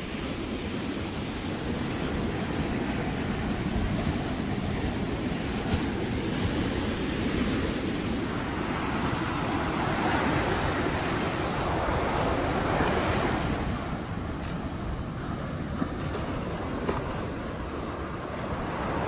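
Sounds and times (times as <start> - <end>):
ocean surf breaking on beach: 0.0 - 19.0
wind rumbling on microphone: 0.0 - 19.0.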